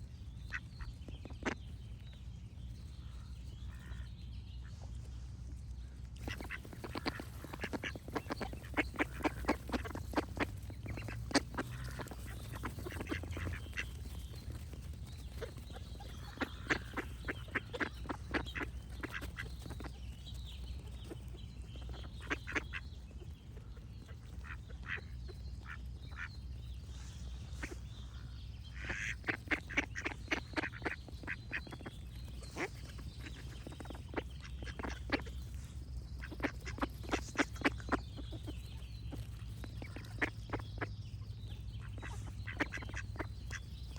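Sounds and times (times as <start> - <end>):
low background rumble: 0.0 - 43.9
ducks quacking: 6.2 - 43.9.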